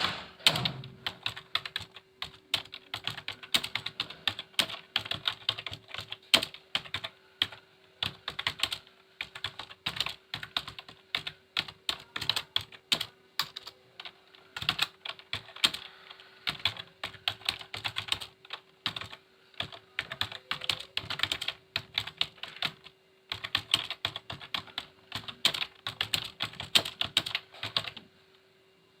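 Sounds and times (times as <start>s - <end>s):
typing on keyboard: 0.0s - 15.9s, 16.5s - 28.0s
faint steady hum: 0.0s - 29.0s.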